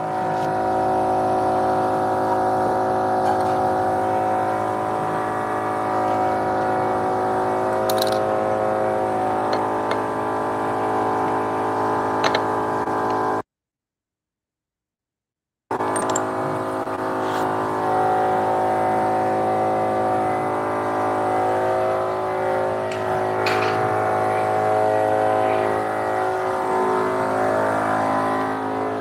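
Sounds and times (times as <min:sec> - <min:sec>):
metal lathe humming: 0:00.0 - 0:13.4, 0:15.7 - 0:29.0.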